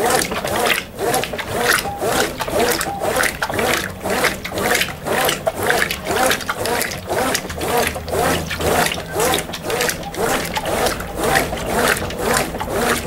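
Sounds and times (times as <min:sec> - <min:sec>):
washing machine motor whir: 0:00.0 - 0:13.0
water sloshing in washing machine: 0:00.0 - 0:13.0.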